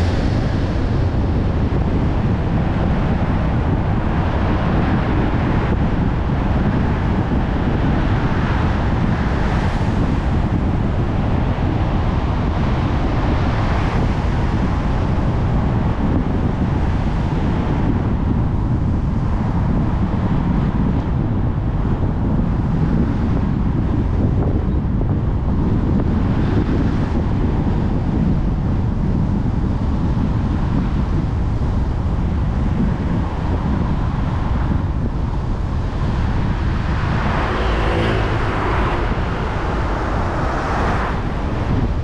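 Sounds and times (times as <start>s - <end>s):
low road rumble: 0.0s - 42.0s.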